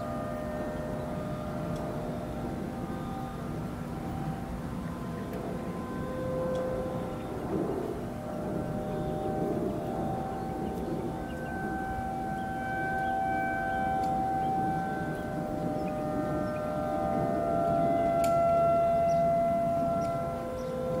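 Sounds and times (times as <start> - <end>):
warning siren steady tone: 0.0 - 21.0.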